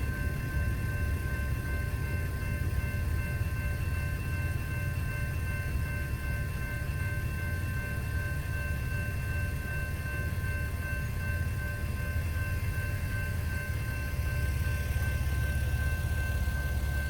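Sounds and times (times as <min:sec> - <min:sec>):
crossing bell ringing: 0:00.0 - 0:17.0
low rumble of train and traffic: 0:00.0 - 0:17.0.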